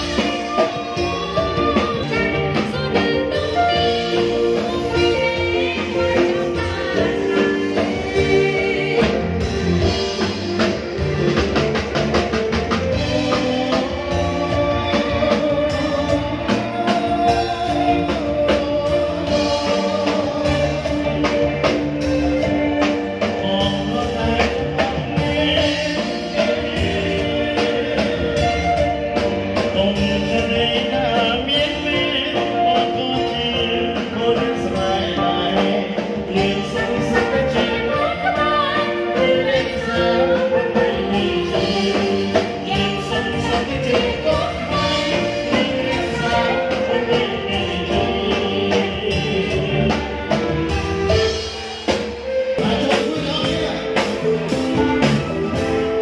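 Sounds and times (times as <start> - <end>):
drum kit beat: 0.0 - 56.0
electronic keyboards: 0.0 - 56.0
person singing: 0.0 - 56.0.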